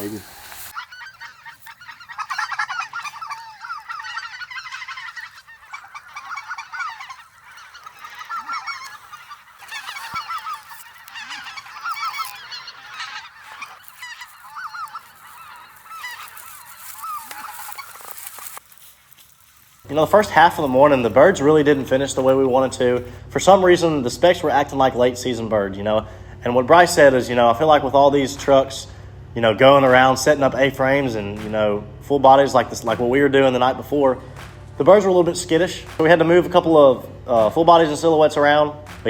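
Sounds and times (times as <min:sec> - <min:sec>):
geese yelping: 0:00.0 - 0:39.0.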